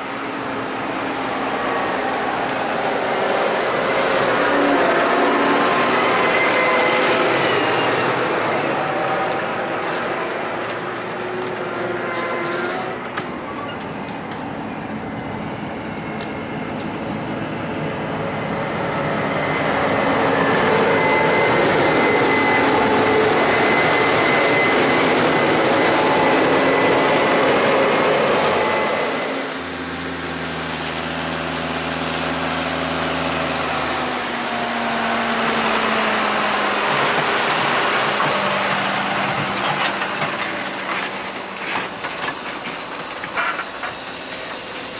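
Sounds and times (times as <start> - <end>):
heavy diesel machinery running: 0.0 - 44.9.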